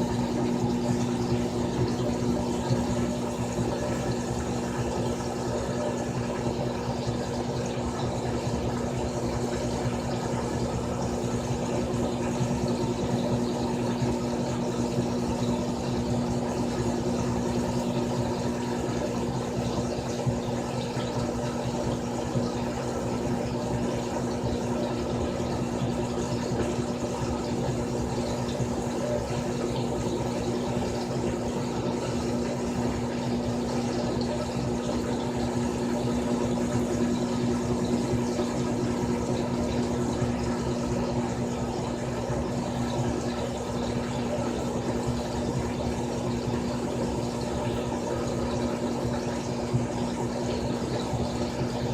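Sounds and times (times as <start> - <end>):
washing machine motor hum: 0.0 - 51.9
water sloshing in washing machine: 0.0 - 51.9.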